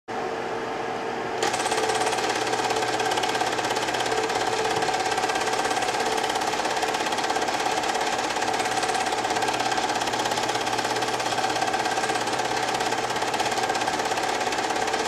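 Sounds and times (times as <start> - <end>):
film projector clattering: 1.4 - 15.0.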